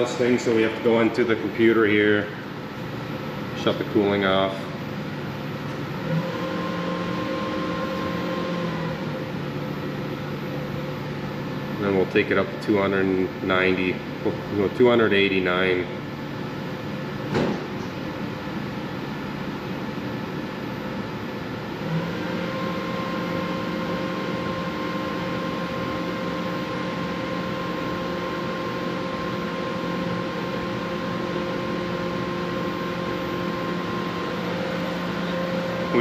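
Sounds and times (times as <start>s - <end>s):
machinery hum: 0.0s - 36.0s
motor humming in steady tones: 0.0s - 36.0s.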